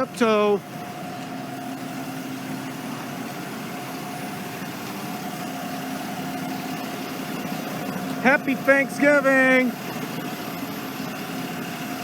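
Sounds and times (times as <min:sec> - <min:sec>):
motor idling: 0:00.0 - 0:12.0
street noise: 0:00.0 - 0:12.0.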